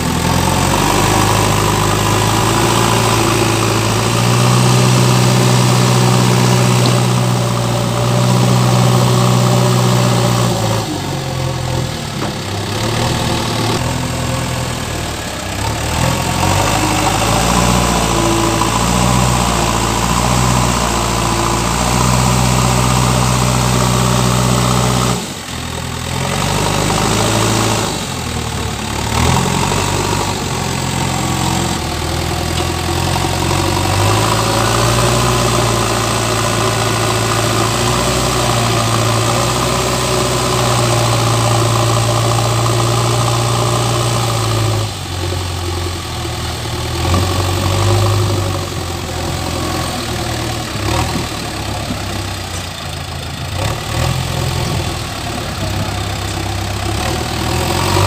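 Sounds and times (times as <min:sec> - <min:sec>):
diesel engine running: 0:00.0 - 0:58.0
loader bucket working sand: 0:00.0 - 0:58.0.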